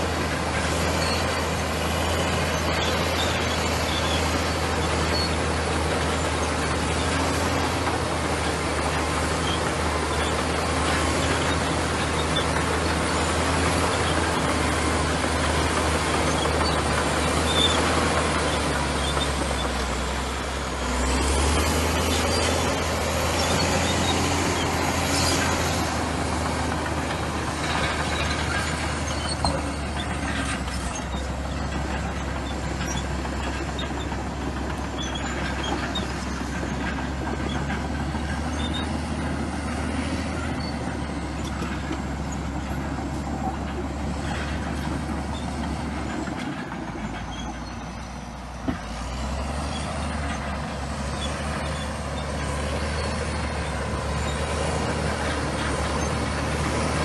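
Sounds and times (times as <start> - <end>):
bulldozer diesel engine running: 0.0 - 57.0
steel tracks rattling and squealing: 0.0 - 57.0.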